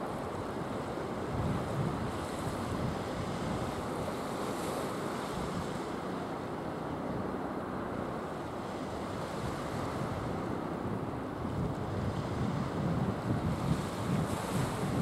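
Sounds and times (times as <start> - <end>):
wind rumbling on microphone: 0.0 - 6.2, 8.6 - 15.0
surf washing on beach: 0.0 - 15.0.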